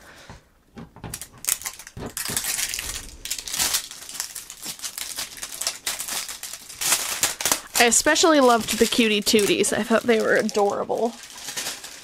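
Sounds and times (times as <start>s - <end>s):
plastic packaging crinkling: 1.1s - 12.0s.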